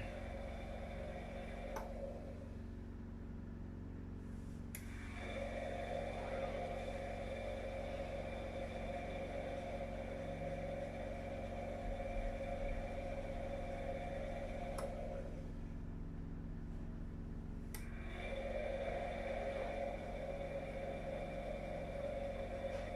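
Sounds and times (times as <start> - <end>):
washing machine drum spinning: 0.0 - 3.4, 4.8 - 16.3, 17.2 - 22.9.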